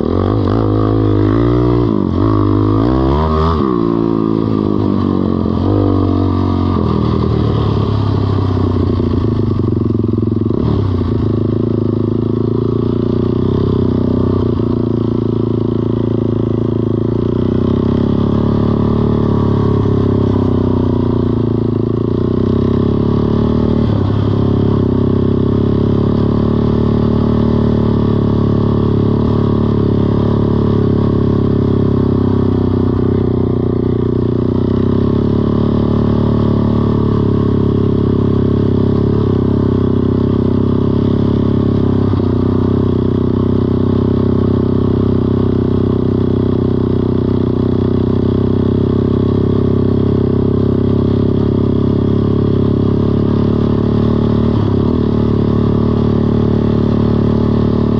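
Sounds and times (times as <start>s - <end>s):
four-wheeler engine running: 0.0s - 57.9s.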